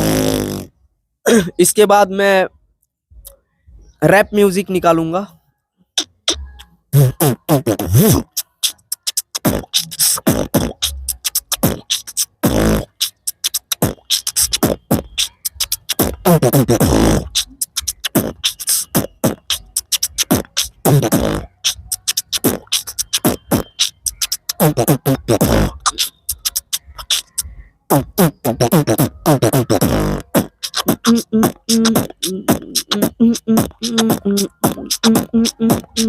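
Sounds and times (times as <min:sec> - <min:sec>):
beatboxing: 0:00.0 - 0:02.4, 0:05.9 - 0:36.0.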